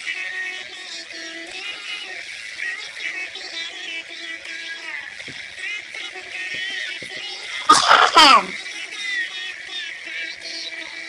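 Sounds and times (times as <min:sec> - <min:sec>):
girl singing high-pitched: 0:00.0 - 0:11.0.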